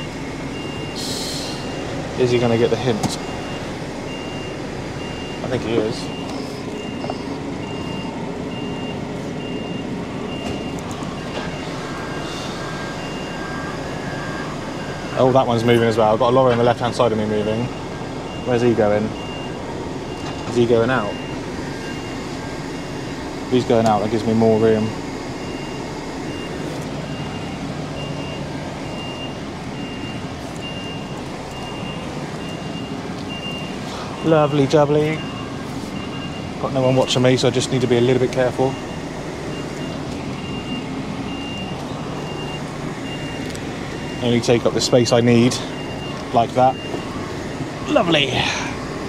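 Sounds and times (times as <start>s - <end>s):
lorry engine idling: 0.0s - 49.0s
reversing alarm beeping: 0.0s - 49.0s.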